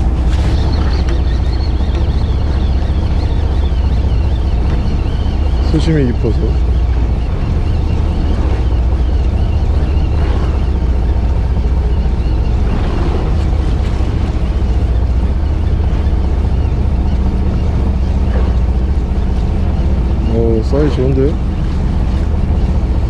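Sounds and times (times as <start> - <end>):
boat engine droning: 0.0 - 23.0
wind on microphone: 0.0 - 23.0.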